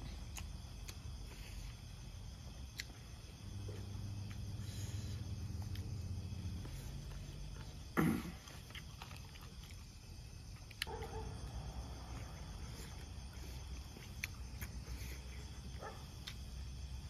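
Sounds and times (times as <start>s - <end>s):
faint low hum: 0.0s - 17.0s
insects chirping: 0.0s - 17.0s.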